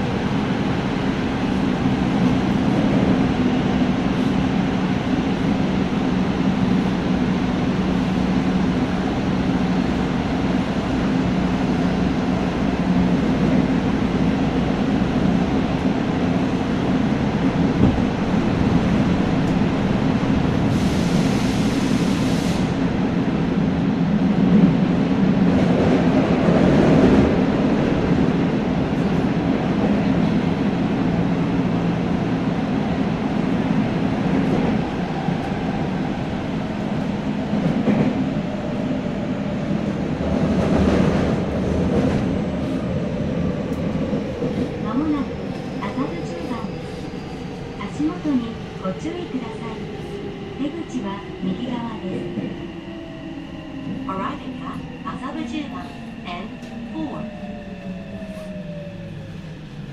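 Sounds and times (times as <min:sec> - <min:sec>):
train wheel and rail rumble: 0:00.0 - 0:59.9.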